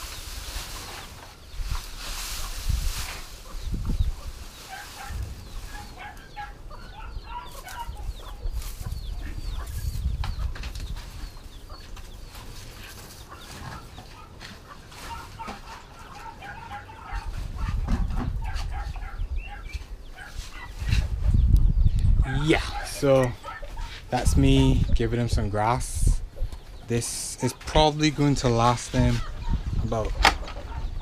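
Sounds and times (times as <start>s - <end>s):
grass rustling and clicking: 0.0s - 21.6s, 22.2s - 31.0s
chickens clucking and peeping: 0.0s - 31.0s.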